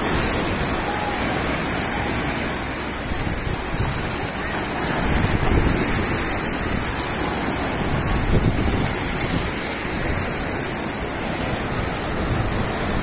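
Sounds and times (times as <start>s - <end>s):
surf breaking over rocks: 0.0s - 13.0s
wind rumbling on microphone: 0.0s - 13.0s.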